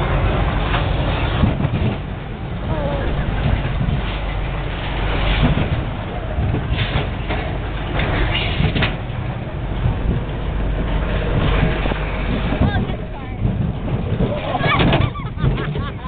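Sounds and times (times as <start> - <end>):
roller coaster rattling on track: 0.0 - 16.0.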